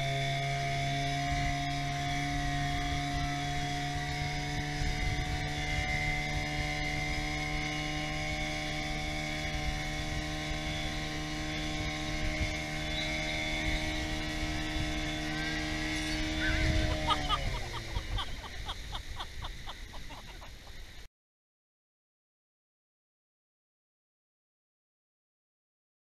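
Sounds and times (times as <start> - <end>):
outboard motor running: 0.0 - 21.0
water rushing along hull: 0.0 - 21.0.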